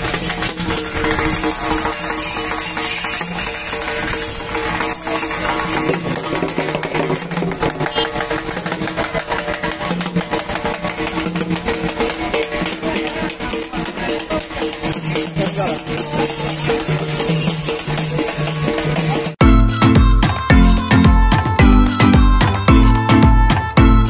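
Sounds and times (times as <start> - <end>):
music with fast busy beat: 0.0 - 24.0.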